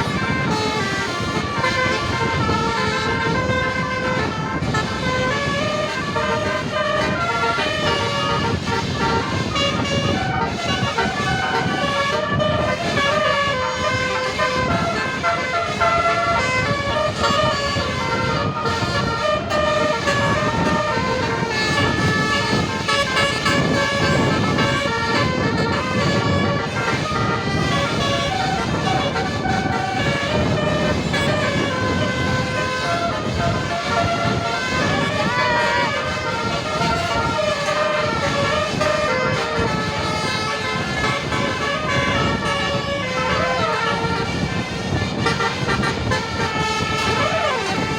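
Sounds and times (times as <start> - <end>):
bus horn playing a tune: 0.0 - 47.9.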